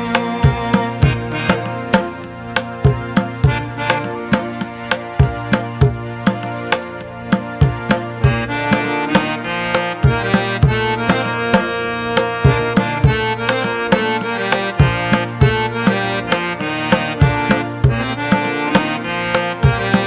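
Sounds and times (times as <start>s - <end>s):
music with steady beat: 0.0s - 20.0s.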